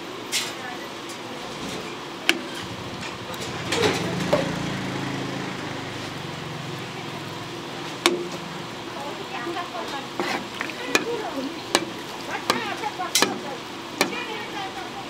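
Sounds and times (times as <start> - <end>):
steady low hum: 2.0 - 15.0.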